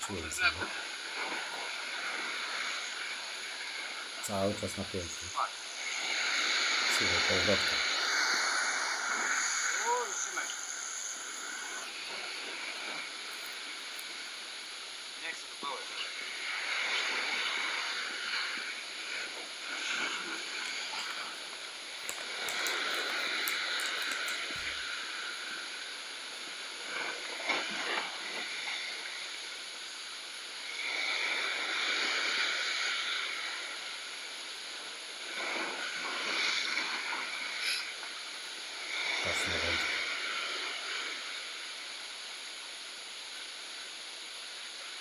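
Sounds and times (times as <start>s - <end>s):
sea surf washing against rocks: 0.0s - 42.5s.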